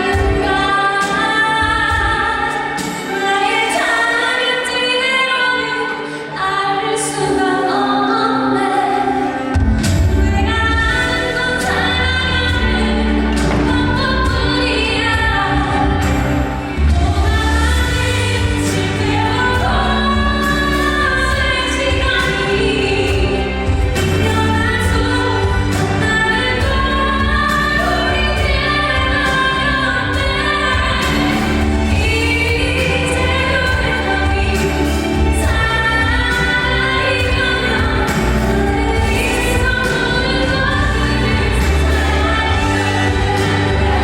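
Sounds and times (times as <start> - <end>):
band accompaniment with bass: 0.0 - 4.9, 8.5 - 44.0
choir-like backing vocals: 0.0 - 44.0
woman singing: 0.0 - 44.0.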